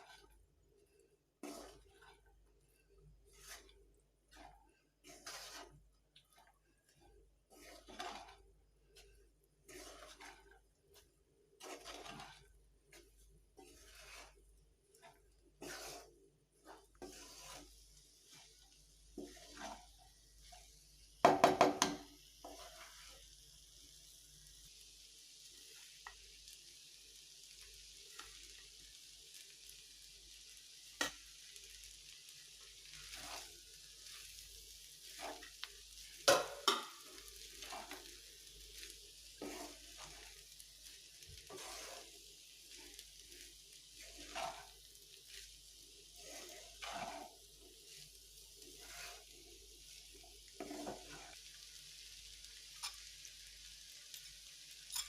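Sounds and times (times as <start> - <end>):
food sizzling in a frying pan: 0.0 - 0.6, 1.4 - 6.2, 6.9 - 55.0
spatula scraping pan: 0.0 - 23.9, 30.8 - 51.5, 52.5 - 53.2.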